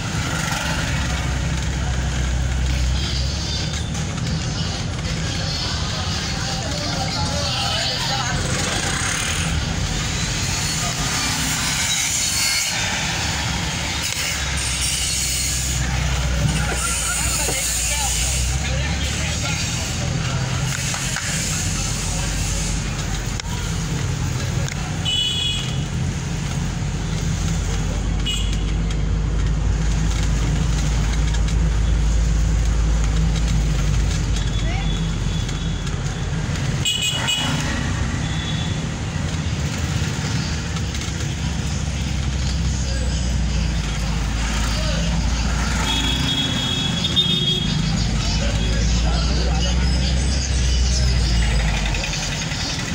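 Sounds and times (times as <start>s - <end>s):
vehicle engine and road noise: 0.0s - 52.9s.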